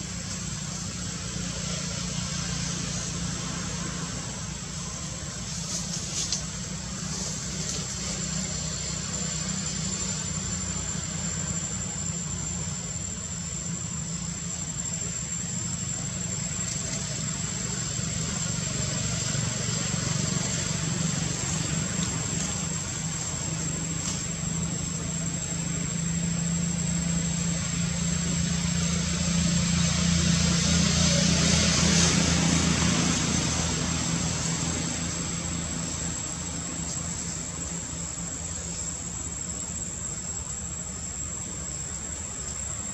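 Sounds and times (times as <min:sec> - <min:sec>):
low engine drone: 0:00.0 - 0:42.9.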